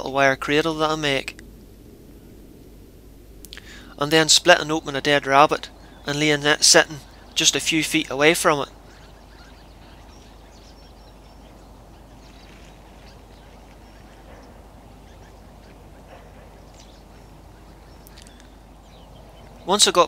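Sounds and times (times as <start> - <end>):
low background hum: 0.0 - 20.0
faint bird calls: 3.4 - 20.0
ducks quacking: 3.6 - 20.0.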